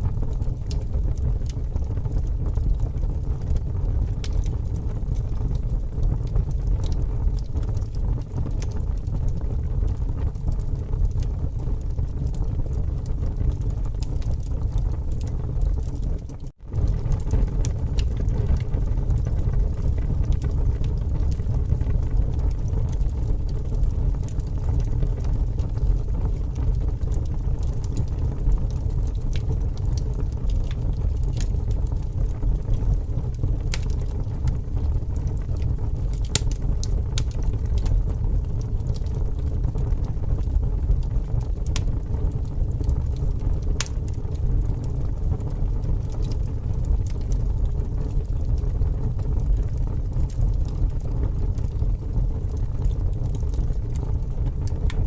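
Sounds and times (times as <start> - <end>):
fire crackling and popping: 0.0 - 55.0
fire low rumble: 0.0 - 55.0.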